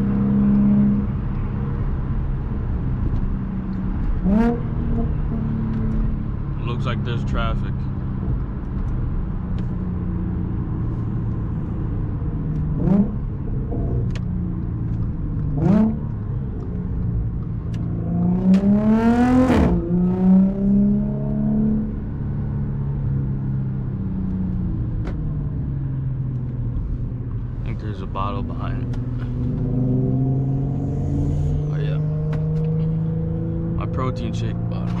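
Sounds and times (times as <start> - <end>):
car engine while driving: 0.0 - 35.0.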